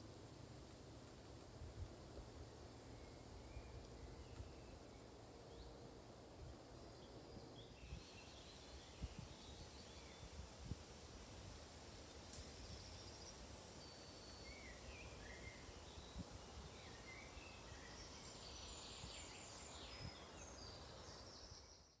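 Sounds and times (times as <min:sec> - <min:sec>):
low steady hiss: 0:00.0 - 0:22.0
small birds chirping: 0:01.5 - 0:22.0.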